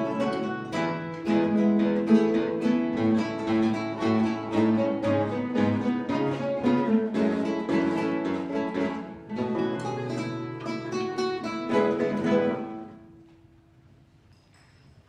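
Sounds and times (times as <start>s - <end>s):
classical guitar ensemble playing: 0.0s - 13.5s.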